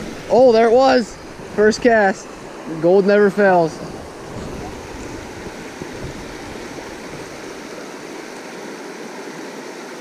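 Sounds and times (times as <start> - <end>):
creek rushing over rocks: 0.0 - 10.0.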